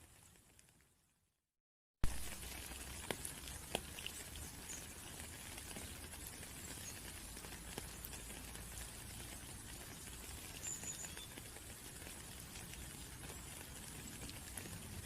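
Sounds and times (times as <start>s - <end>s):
raindrops clicking: 2.0s - 15.0s
steady rain: 2.0s - 15.0s.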